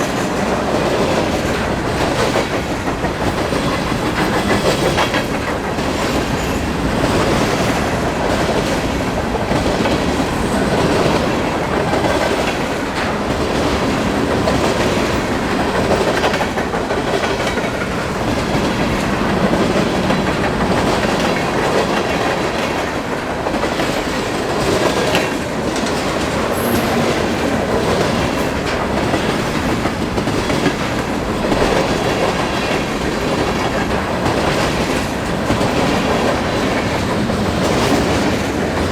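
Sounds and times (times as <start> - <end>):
train rolling past: 0.0 - 38.9
train wheels clicking over rail joints: 0.0 - 38.9.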